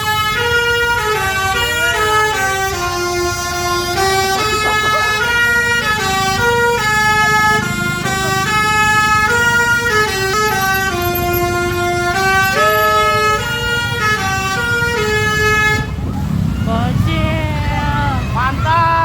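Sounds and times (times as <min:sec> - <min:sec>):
multi-tone vehicle horn tune: 0:00.0 - 0:19.0.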